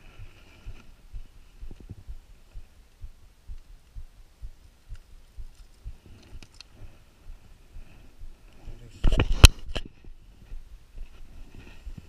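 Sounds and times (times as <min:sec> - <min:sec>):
low muffled thumps: 0:00.0 - 0:12.0.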